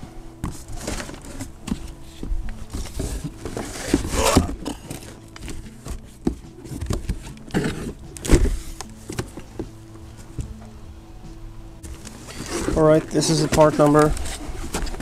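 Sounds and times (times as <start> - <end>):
cardboard boxes scraping: 0.4 - 9.6, 11.9 - 15.0.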